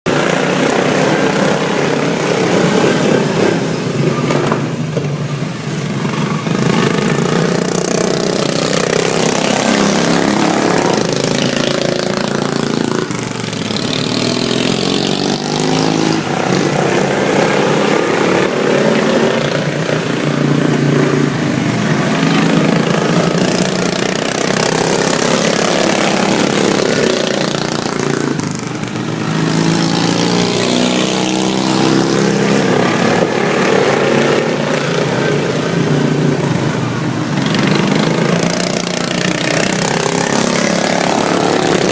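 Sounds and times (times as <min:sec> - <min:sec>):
racing mower engines revving: 0:00.0 - 0:41.9.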